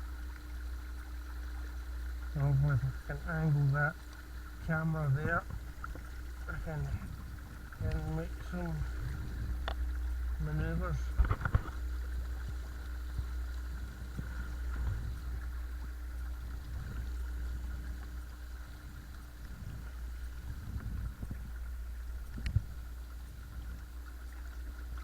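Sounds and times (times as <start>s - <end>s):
water against hull: 0.0s - 25.0s.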